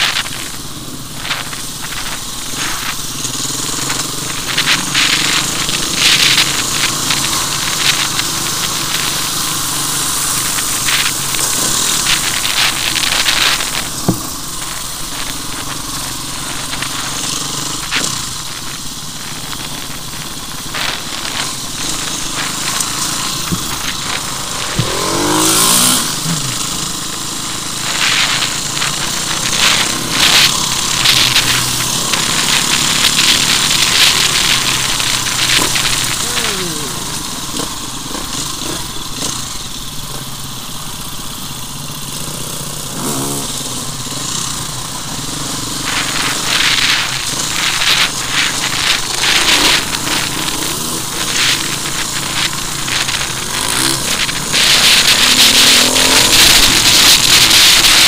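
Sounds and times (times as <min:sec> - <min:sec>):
dirt bike engine running: 0:00.0 - 0:58.0
wind hiss: 0:00.0 - 0:58.0.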